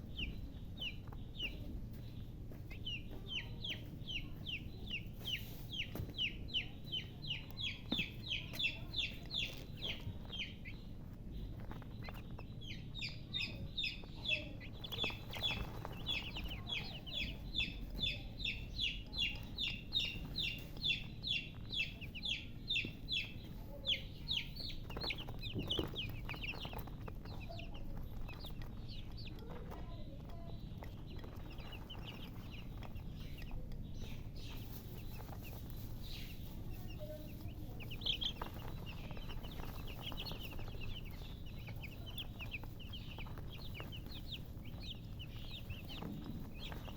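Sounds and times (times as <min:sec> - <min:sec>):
baby chicks peeping: 0:00.0 - 0:46.9.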